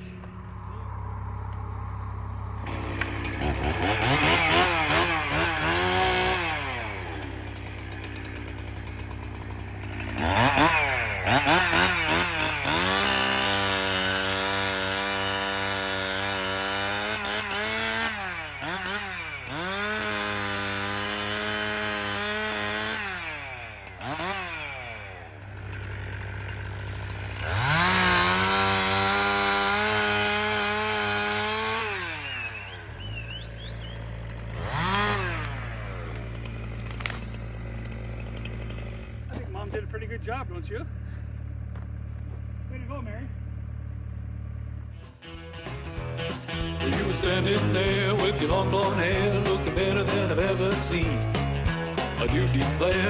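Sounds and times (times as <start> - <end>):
chainsaw cutting wood: 1.6 - 39.8, 46.3 - 53.0.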